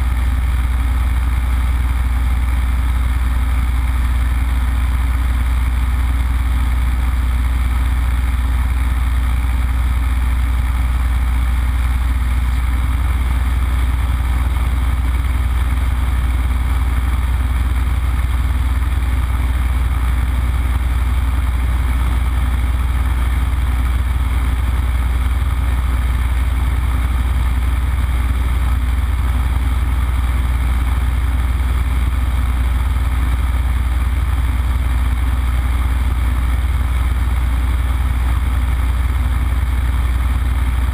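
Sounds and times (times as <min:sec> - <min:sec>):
propeller aircraft engine drone: 0:00.0 - 0:40.9.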